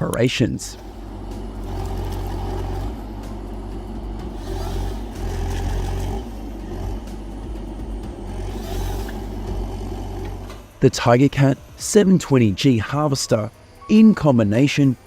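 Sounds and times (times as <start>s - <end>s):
diesel engine running under work: 0.0s - 13.8s.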